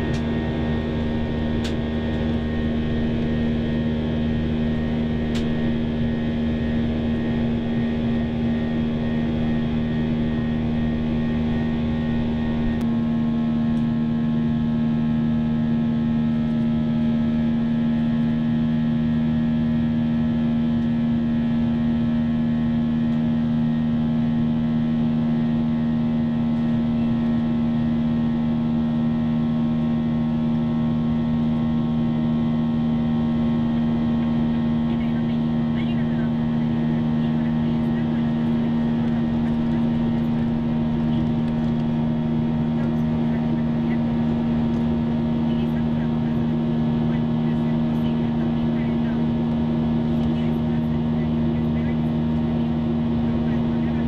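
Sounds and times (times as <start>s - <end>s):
jet engine cabin hum: 0.0s - 54.0s.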